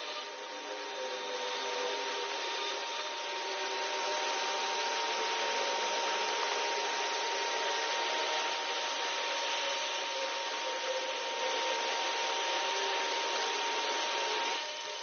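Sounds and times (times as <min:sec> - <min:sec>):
steady high whine: 0:00.0 - 0:15.0
steady hiss: 0:00.0 - 0:15.0.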